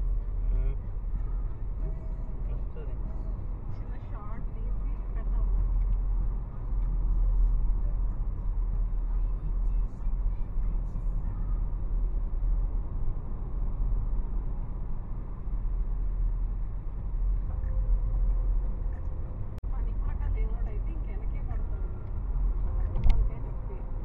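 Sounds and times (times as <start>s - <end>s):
road and tyre rumble in car: 0.0s - 24.0s.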